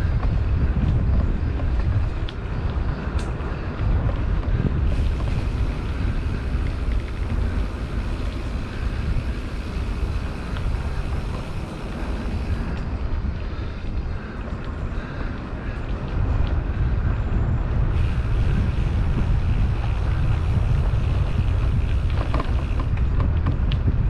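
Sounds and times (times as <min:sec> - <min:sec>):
bicycle tyres hissing on asphalt: 0:00.0 - 0:24.0
wind buffeting microphone: 0:00.0 - 0:24.0.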